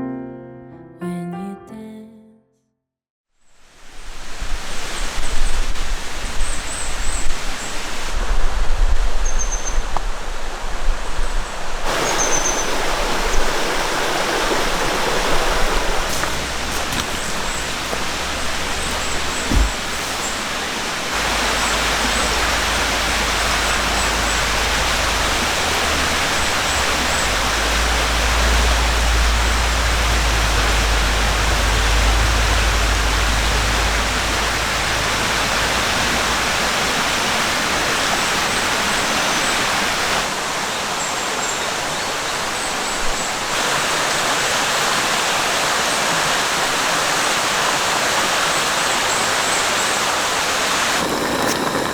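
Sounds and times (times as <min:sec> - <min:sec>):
stream water rushing: 0:03.8 - 0:10.9, 0:11.5 - 0:51.9.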